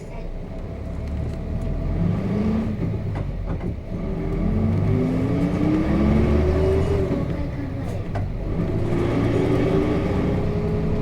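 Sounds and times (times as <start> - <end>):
bus diesel engine revving: 0.3 - 11.0.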